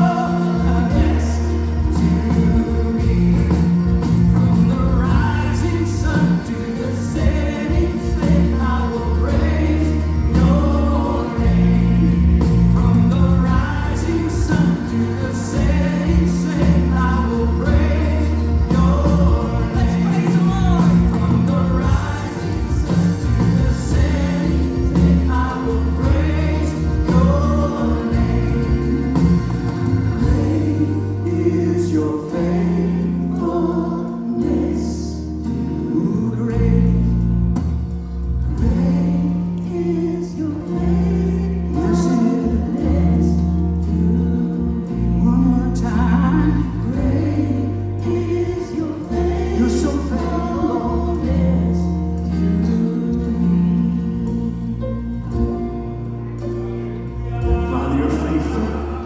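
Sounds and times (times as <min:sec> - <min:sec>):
band accompaniment: 0:00.0 - 0:59.0
choir singing gospel music: 0:00.0 - 0:59.0
deep bass: 0:00.0 - 0:59.0.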